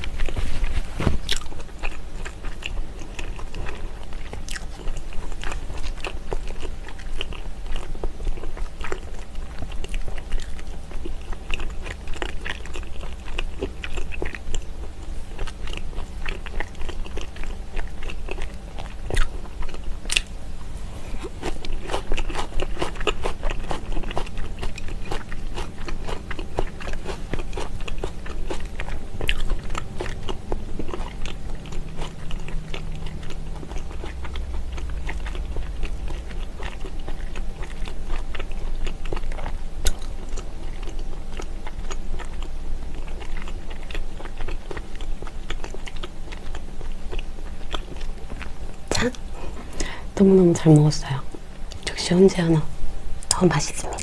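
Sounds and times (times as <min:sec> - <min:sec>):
chewing raw onion crunching: 0:00.0 - 0:52.6.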